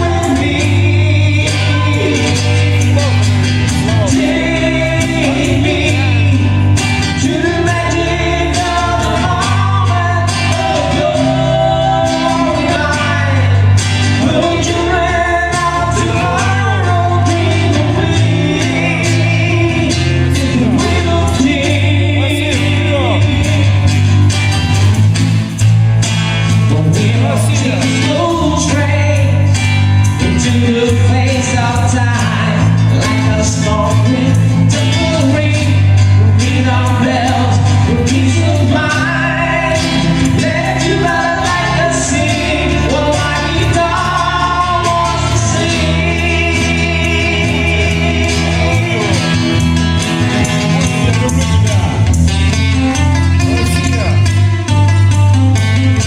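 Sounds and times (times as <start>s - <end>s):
song with singing and bass beat: 0.0s - 56.0s.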